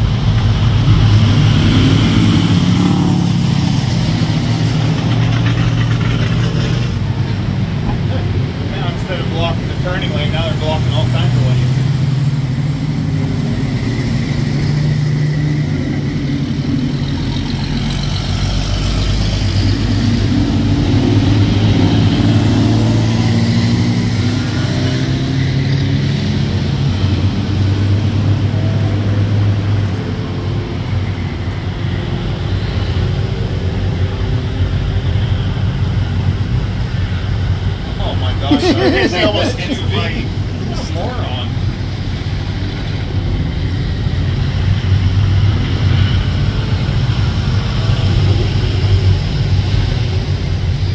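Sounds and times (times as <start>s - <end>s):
road traffic: 0.0s - 50.9s
vehicle engine accelerating: 0.0s - 50.9s.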